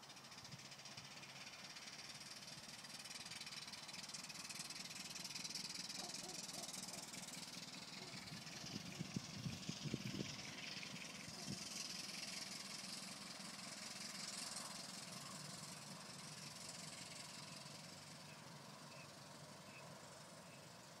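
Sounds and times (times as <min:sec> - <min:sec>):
steam car running with hiss: 0:00.0 - 0:21.0.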